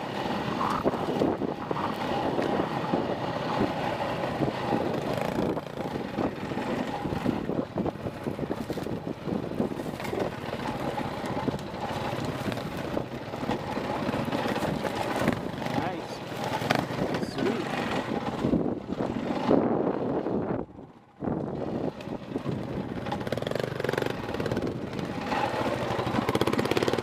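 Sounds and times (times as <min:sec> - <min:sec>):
dirt bike engine revving: 0:00.0 - 0:07.6, 0:10.1 - 0:19.8, 0:22.4 - 0:27.0
wind noise on microphone: 0:00.0 - 0:27.0.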